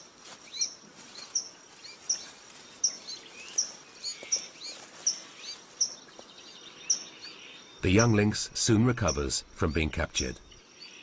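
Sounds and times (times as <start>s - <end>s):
bird chirping: 0.0s - 11.0s
faint outdoor background noise: 0.0s - 11.0s.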